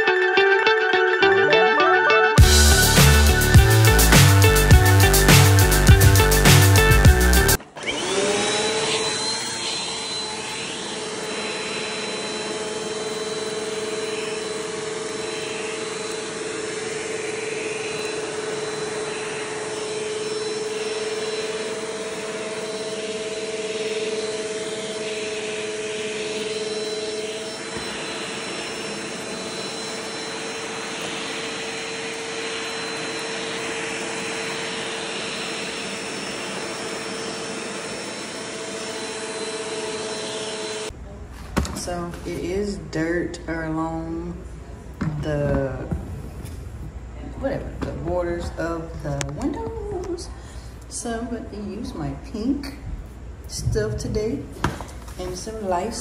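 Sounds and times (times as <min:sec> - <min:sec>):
vacuum cleaner running: 0:02.4 - 0:41.0, 0:41.6 - 0:56.0.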